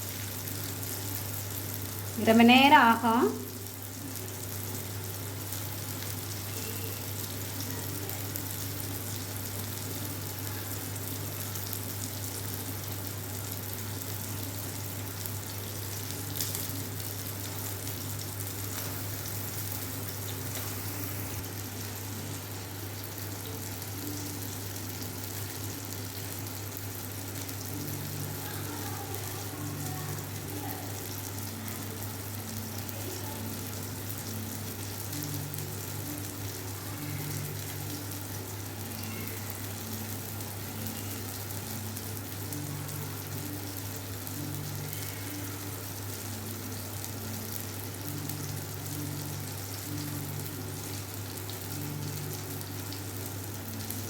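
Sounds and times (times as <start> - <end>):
chicken pieces sizzling: 0.0 - 54.0.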